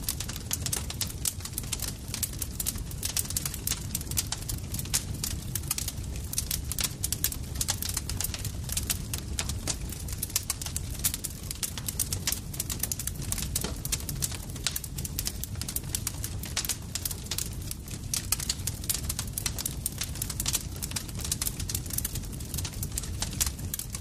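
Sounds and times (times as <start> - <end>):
campfire crackling: 0.0 - 24.0
low rumble of flames: 0.0 - 24.0.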